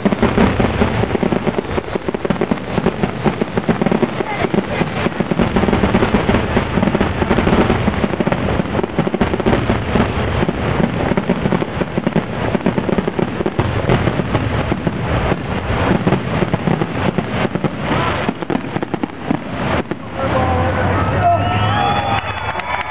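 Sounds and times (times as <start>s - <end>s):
fireworks bursting and crackling: 0.0s - 22.9s.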